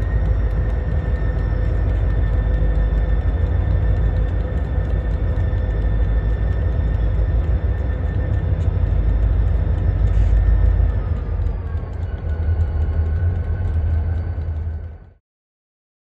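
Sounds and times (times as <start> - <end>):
diesel locomotive rumble: 0.0 - 15.2
faint steady whine: 0.0 - 15.2.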